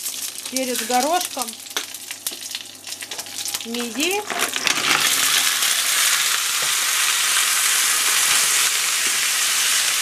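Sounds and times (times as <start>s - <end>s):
mussels sizzling in oil: 0.0s - 10.0s.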